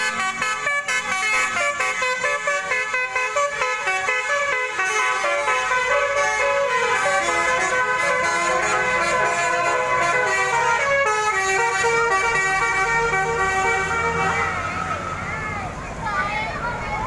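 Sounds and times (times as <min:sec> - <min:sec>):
multi-tone musical air horn: 0:00.0 - 0:14.8.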